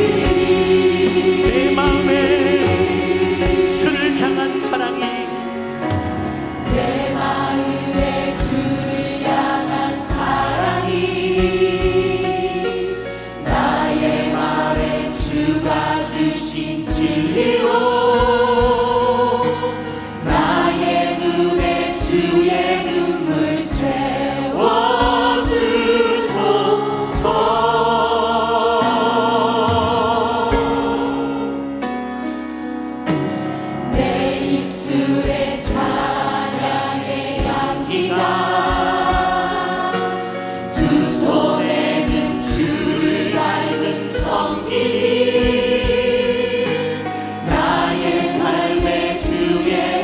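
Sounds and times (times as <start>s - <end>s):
band accompaniment: 0.0s - 50.0s
choir singing a hymn: 0.0s - 50.0s.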